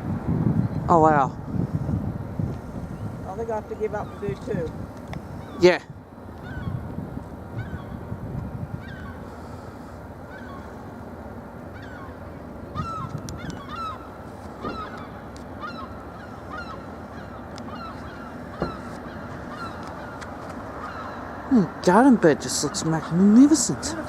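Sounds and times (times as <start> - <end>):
outdoor background: 0.0 - 24.0
birds calling: 2.6 - 24.0.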